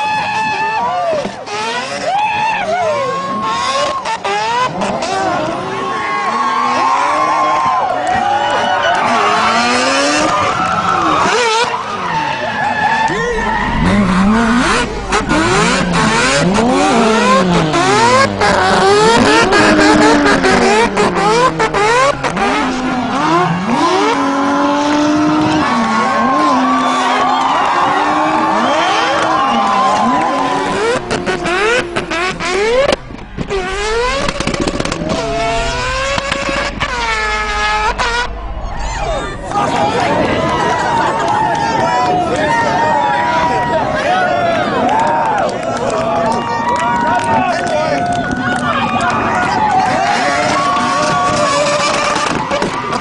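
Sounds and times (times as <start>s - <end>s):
rotary engine revving hard: 1.2s - 2.1s, 2.8s - 8.3s, 8.9s - 41.2s, 49.1s - 53.0s.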